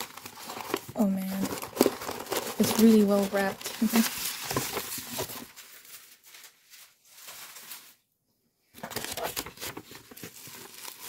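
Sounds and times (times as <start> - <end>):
wrapping paper rustling: 0.0 - 8.1, 8.8 - 11.0.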